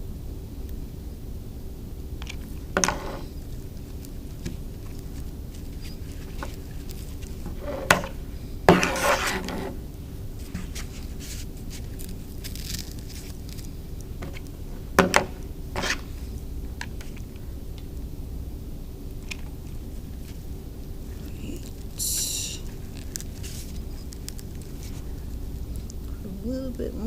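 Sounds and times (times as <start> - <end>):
low room hum: 0.0 - 27.0
scraping rustle: 2.3 - 17.4, 19.4 - 26.0.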